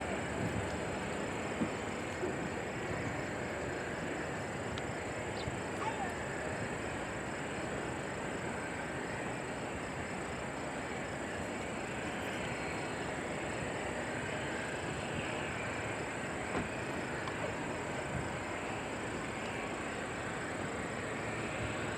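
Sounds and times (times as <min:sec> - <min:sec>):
jet engines roaring: 0:00.0 - 0:21.9.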